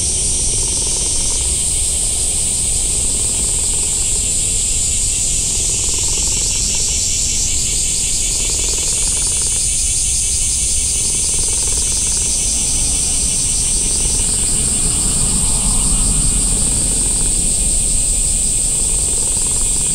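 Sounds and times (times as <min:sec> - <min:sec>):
cicadas singing: 0:00.0 - 0:19.9.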